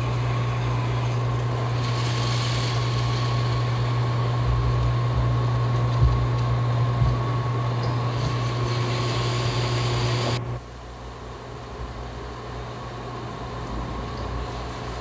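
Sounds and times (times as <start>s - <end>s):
faint high whine: 0.0s - 15.0s
low machine hum: 0.0s - 15.0s.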